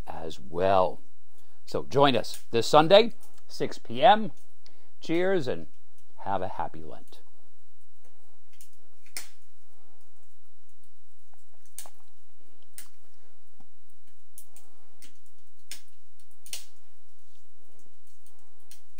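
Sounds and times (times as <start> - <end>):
faint low hum: 0.0 - 18.9
log fire crackling: 0.0 - 18.9.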